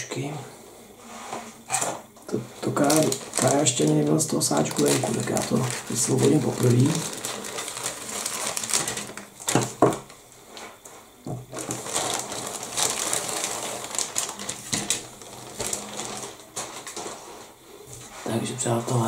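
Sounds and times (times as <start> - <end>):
plastic bag crinkling: 2.3 - 19.0.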